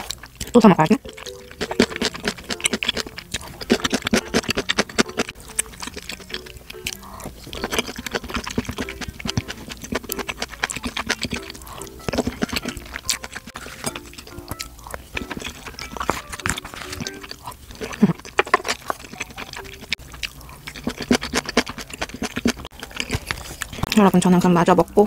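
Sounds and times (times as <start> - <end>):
wet chewing and lip-smacking: 0.0 - 24.5.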